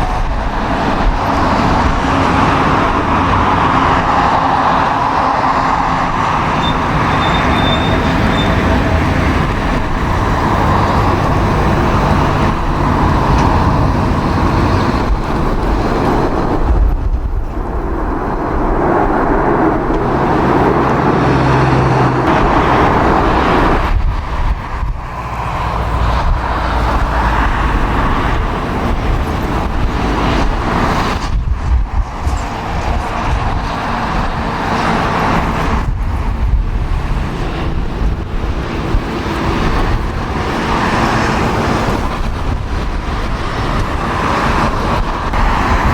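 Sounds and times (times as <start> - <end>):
jet engines roaring: 0.0 - 45.9
strong wind: 0.0 - 45.9.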